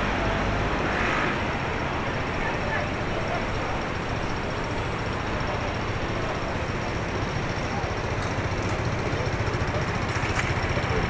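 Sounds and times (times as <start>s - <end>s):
city street ambience: 0.0s - 11.0s.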